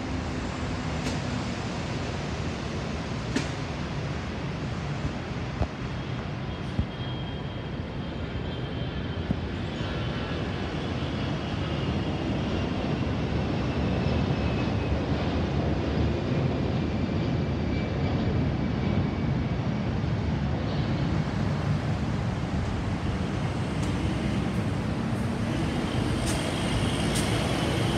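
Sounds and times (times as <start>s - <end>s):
jet engine rumble: 0.0s - 27.9s.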